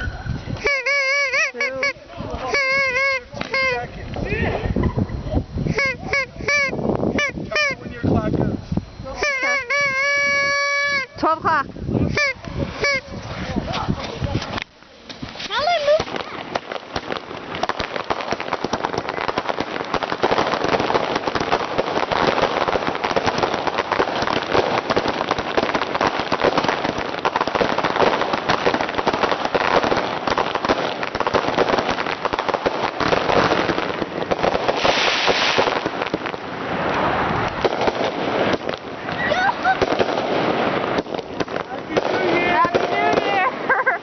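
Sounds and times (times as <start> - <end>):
fireworks crackling: 0.0 - 44.0.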